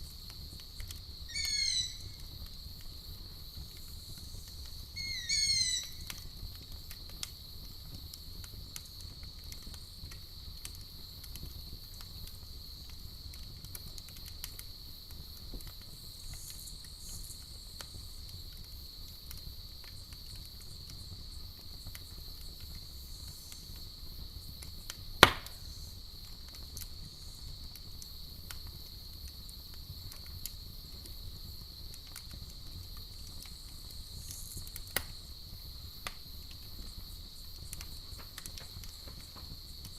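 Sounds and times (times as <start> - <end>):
cricket trill: 0.0 - 15.1, 15.7 - 39.9
campfire crackling and popping: 0.0 - 39.9.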